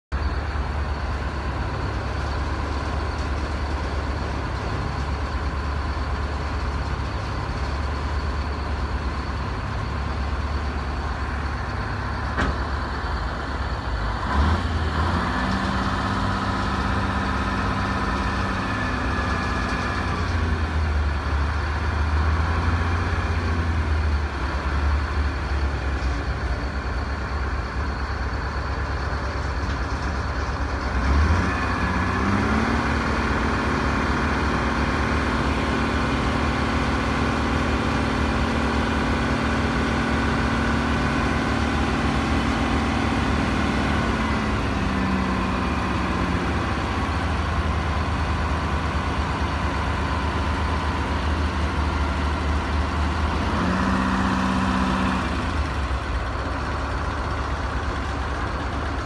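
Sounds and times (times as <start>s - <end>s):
heavy equipment engine idling: 0.1s - 59.0s.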